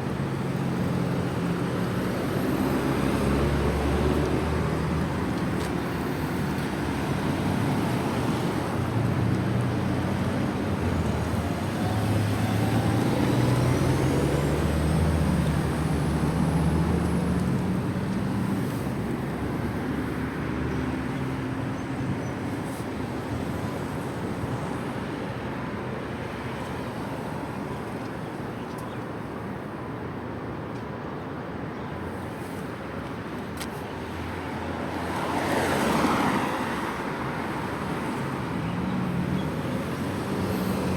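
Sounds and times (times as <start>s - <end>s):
steady traffic: 0.0s - 40.9s.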